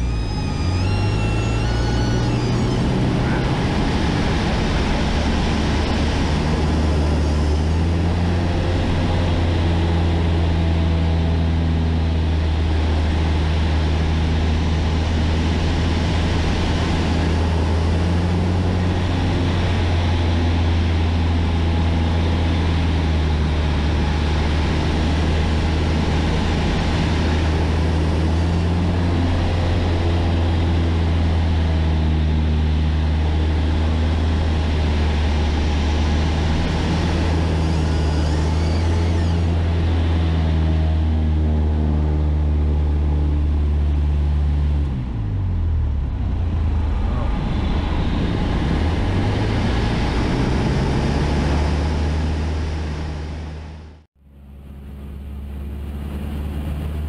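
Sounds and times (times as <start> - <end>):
airplane engine and propeller droning: 0.0 - 57.0.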